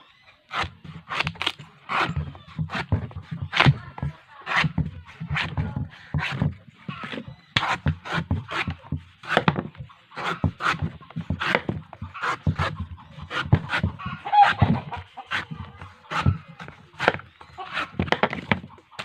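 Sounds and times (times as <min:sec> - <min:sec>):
blade chopping coconut: 0:00.5 - 0:19.0.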